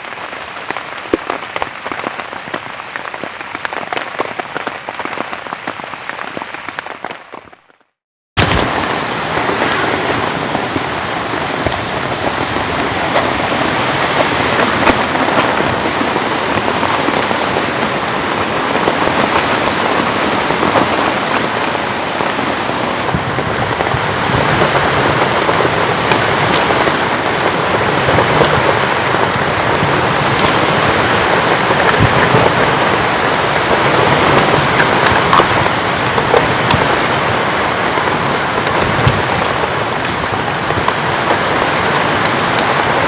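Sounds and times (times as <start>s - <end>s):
heavy rain: 0.0s - 7.6s, 8.4s - 43.0s
sharp raindrop hits: 8.4s - 43.0s.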